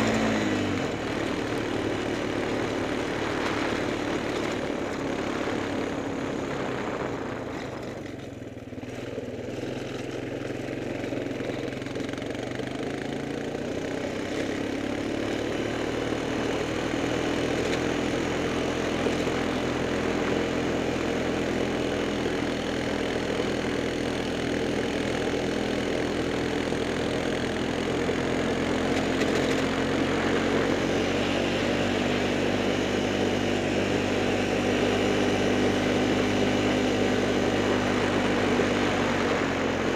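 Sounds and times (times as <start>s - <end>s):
gravel road noise: 0.0s - 39.9s
small vehicle engine: 0.0s - 39.9s.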